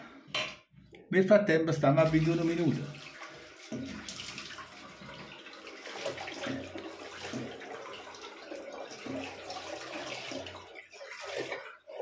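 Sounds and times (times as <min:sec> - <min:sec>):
razor rinsed under water: 0:01.8 - 0:12.0
tap water running into sink: 0:02.0 - 0:12.0.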